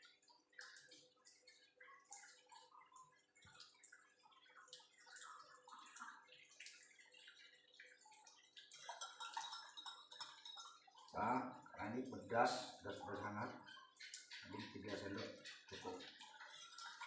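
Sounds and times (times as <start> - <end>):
spoon stirring liquid: 0.1 - 17.0.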